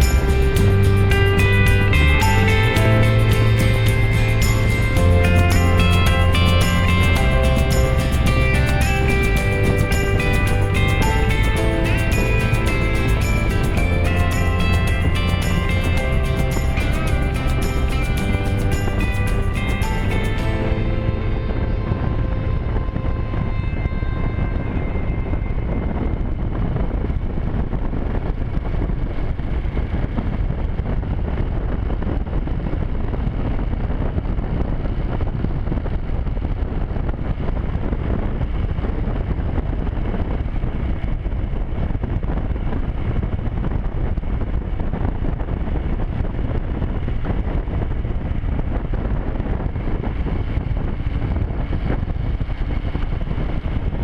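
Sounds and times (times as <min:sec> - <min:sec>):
motorcycle engine drone: 0:00.0 - 0:54.0
wind noise on microphone: 0:00.0 - 0:54.0.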